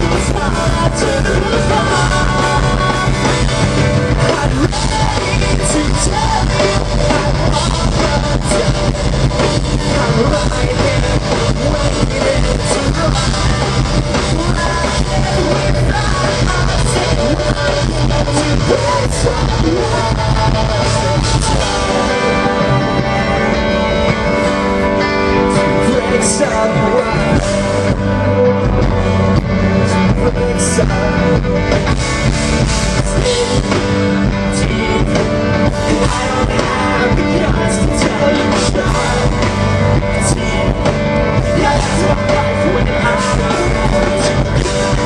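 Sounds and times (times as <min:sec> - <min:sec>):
drums with crashing cymbals: 0:00.0 - 0:26.0, 0:28.8 - 0:45.0
bass guitar: 0:00.0 - 0:45.0
electric guitars: 0:00.0 - 0:45.0
person singing: 0:00.0 - 0:45.0.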